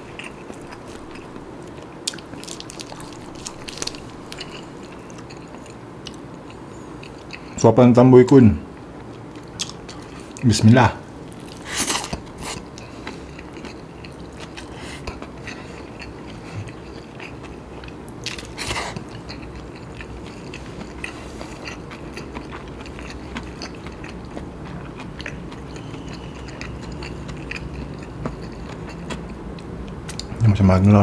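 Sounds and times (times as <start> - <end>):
person chewing food: 0.0 - 7.6, 8.8 - 10.4, 11.1 - 30.3.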